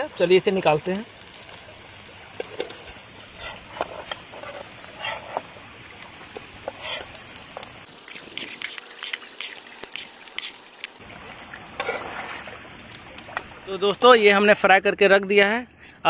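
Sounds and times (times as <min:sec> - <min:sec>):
oil popping: 0:00.0 - 0:14.1
oil sizzling and crackling: 0:00.0 - 0:14.4.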